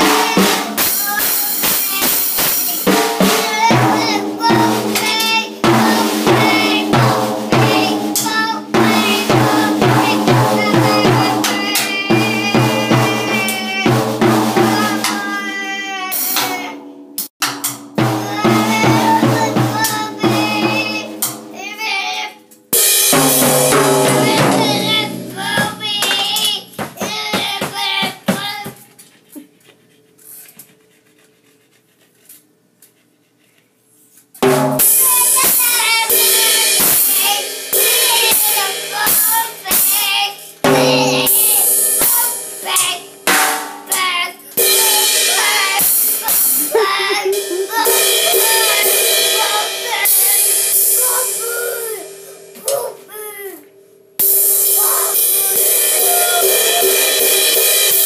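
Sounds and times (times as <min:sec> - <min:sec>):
child singing: 0:00.0 - 0:17.0, 0:18.0 - 0:22.5, 0:23.1 - 0:29.0, 0:34.8 - 0:53.8, 0:54.4 - 0:58.0
child banging on drum kit: 0:00.0 - 0:28.8, 0:34.4 - 0:53.6, 0:54.2 - 0:58.0.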